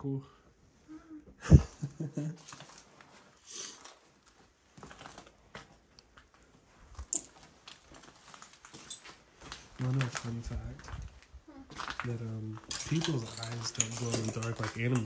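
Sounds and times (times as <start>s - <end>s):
debris crunching underfoot: 2.2s - 15.0s.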